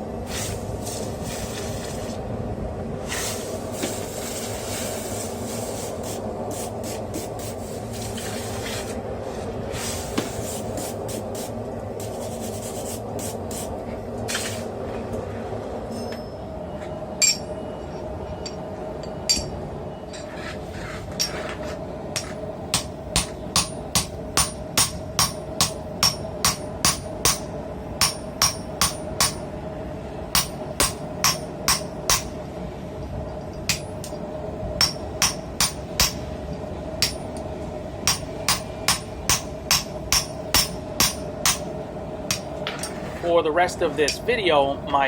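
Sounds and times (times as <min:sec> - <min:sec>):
propane forge roaring: 0:00.0 - 0:45.0.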